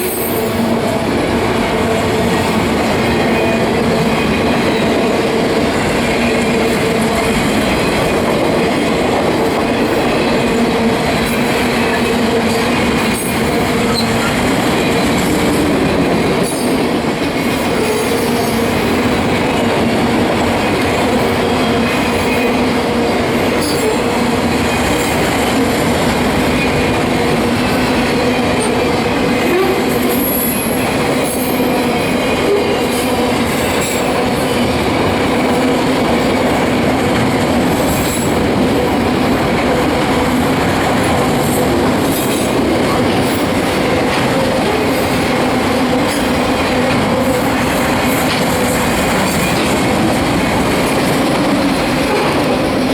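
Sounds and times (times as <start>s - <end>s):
freight train wheels rumbling on rail: 0.0s - 52.9s
rail clicks: 0.0s - 52.9s.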